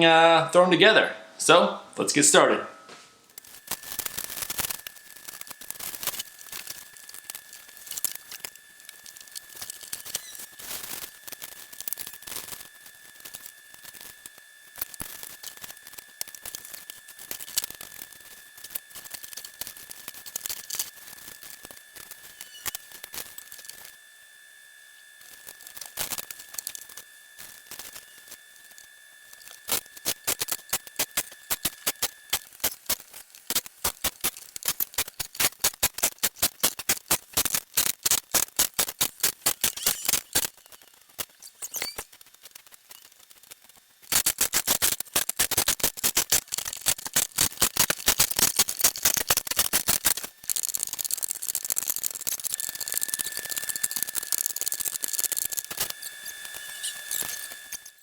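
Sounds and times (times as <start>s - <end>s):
fast sharp clicks: 3.3s - 23.9s, 29.3s - 57.9s
packaging rustling and crinkling: 3.3s - 24.0s, 25.2s - 58.0s.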